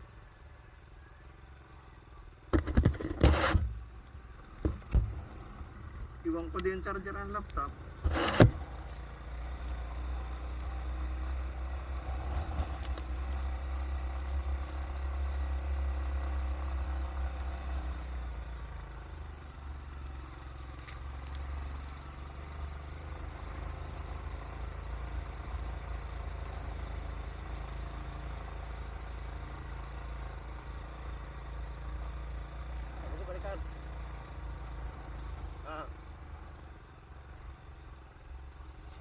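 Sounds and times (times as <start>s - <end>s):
vehicle engine hum: 0.0s - 39.0s.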